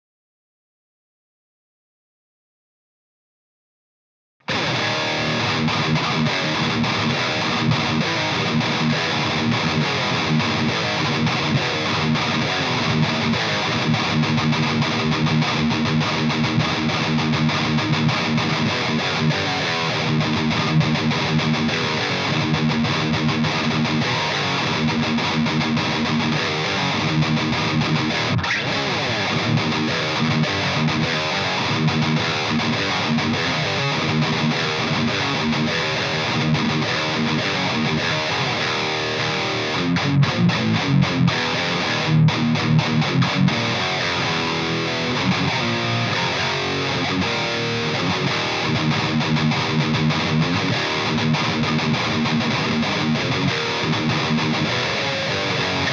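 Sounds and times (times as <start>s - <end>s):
distorted electric guitar: 4.4s - 55.9s.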